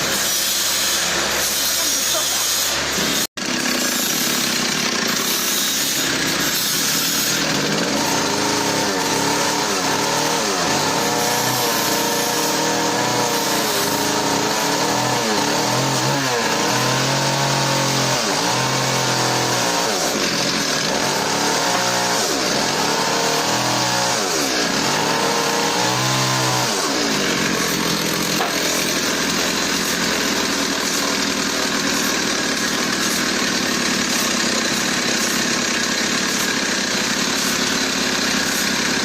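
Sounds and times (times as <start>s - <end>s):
sawmill machinery engine running: 0.0s - 39.0s.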